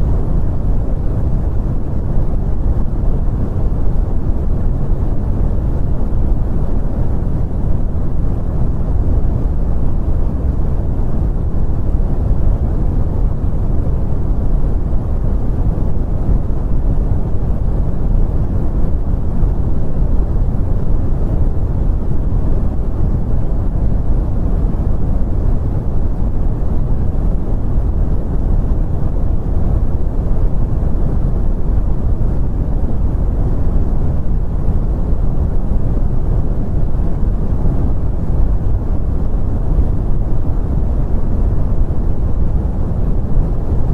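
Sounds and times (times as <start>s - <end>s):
deep rumbling brown noise: 0.0s - 43.9s.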